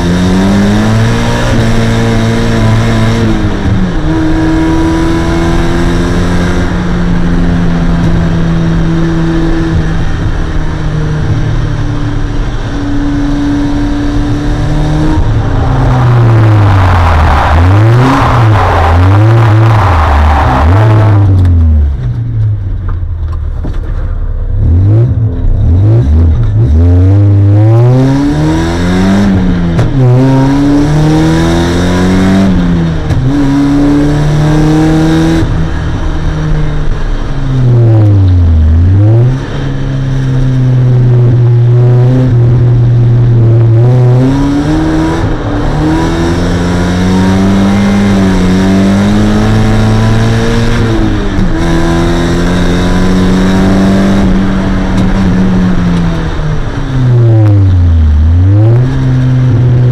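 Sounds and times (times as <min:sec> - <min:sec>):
car engine under hard driving: 0:00.0 - 0:59.9.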